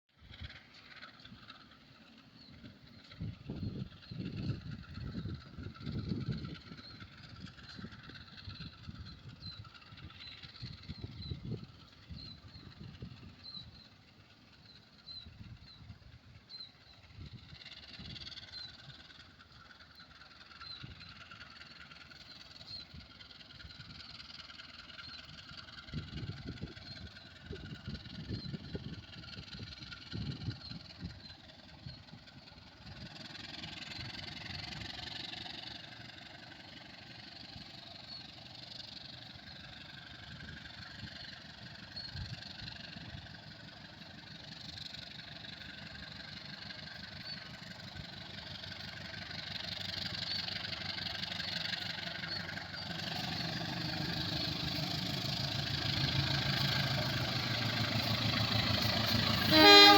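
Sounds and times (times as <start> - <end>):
vehicle engine running: 0.2 - 59.9.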